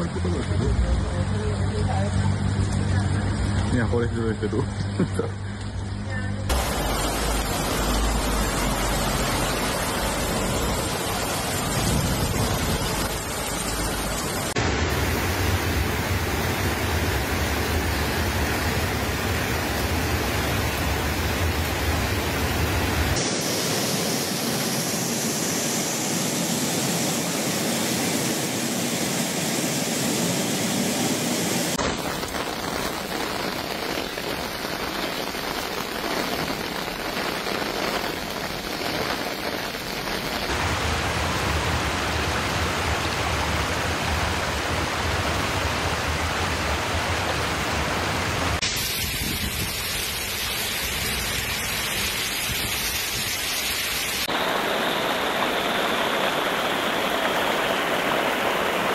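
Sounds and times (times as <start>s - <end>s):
floodwater rushing: 6.5s - 58.9s
heavy rain falling: 6.5s - 58.9s.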